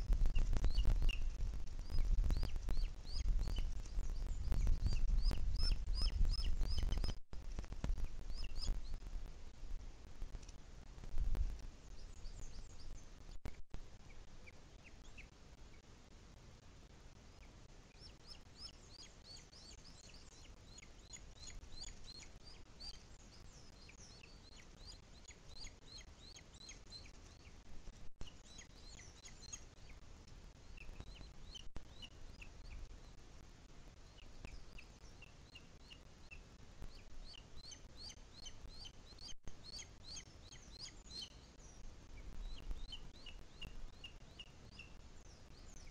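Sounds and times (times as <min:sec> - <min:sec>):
birds chirping: 0:00.0 - 0:07.2, 0:07.9 - 0:09.6, 0:11.8 - 0:15.9, 0:17.3 - 0:45.9.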